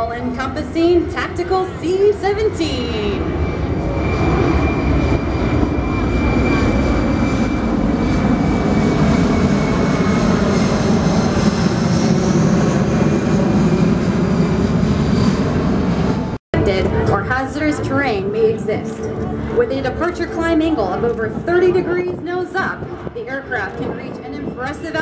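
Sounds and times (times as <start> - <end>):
high engine whine: 0.0 - 25.0
jet engines rumbling: 0.0 - 25.0.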